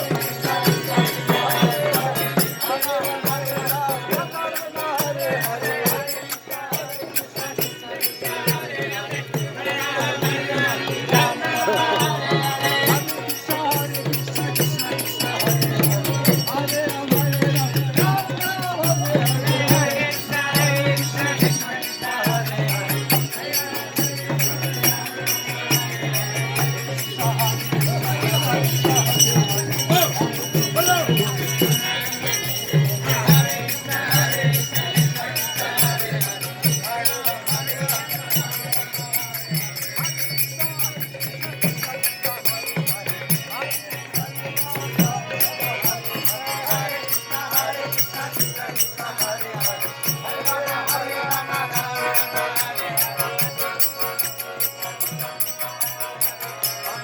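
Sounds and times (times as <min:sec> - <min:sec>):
devotional music: 0:00.0 - 0:57.0
jingling rattling percussion: 0:00.0 - 0:57.0.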